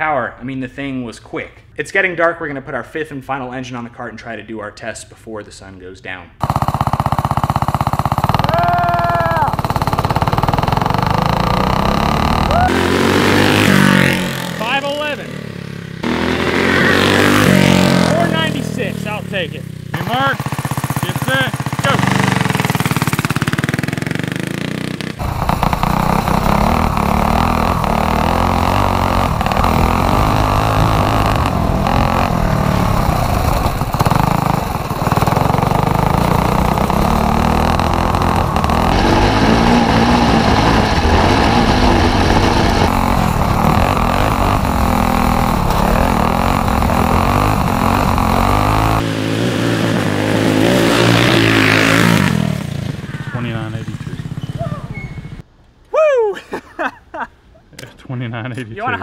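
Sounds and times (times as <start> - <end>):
go-kart engine revving: 6.4 - 55.5.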